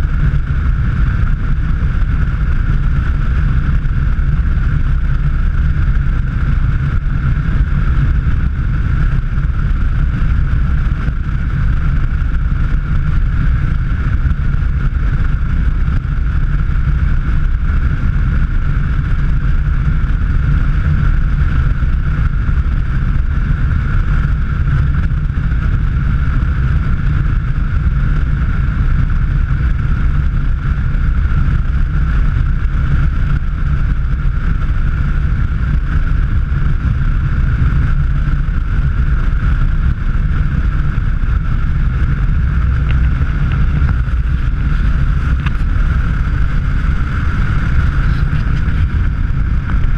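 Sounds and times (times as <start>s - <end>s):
constant hum: 0.0s - 49.9s
vehicle engine and road rumble: 0.0s - 49.9s
wind: 0.0s - 49.9s.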